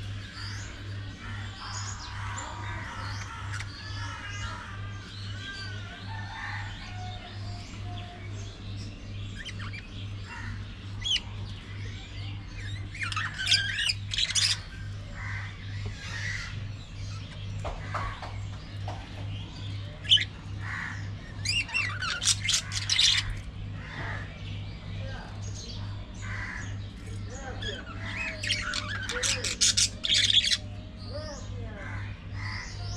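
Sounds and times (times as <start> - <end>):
budgerigars chattering: 0.0 - 32.9.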